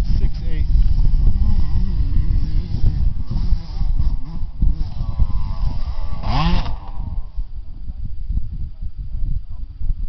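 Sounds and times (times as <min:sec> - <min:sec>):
distant motorbike engines revving: 0:00.0 - 0:08.9
heavy low rumble: 0:00.0 - 0:10.0.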